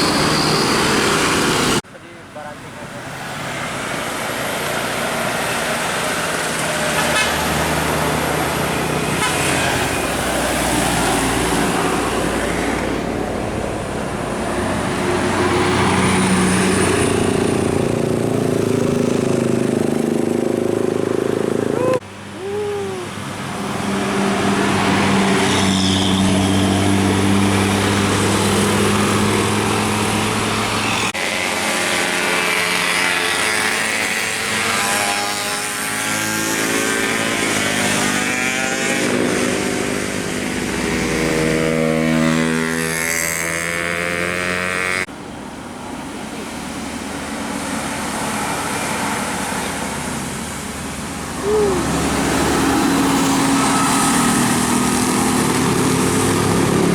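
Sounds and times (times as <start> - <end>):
road and engine noise: 0.0 - 56.9.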